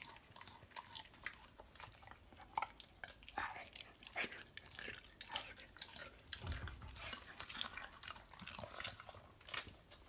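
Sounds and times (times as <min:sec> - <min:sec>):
dog licking: 0:00.0 - 0:10.0.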